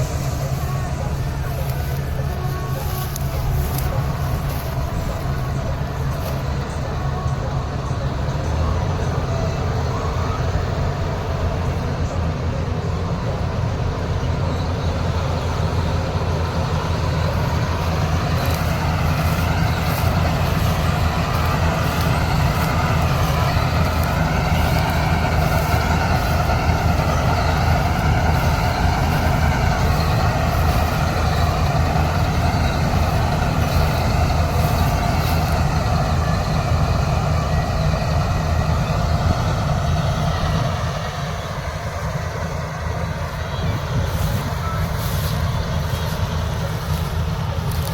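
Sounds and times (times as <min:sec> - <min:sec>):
combine harvester diesel drone: 0:00.0 - 0:47.9
whining machine tone: 0:00.0 - 0:47.9.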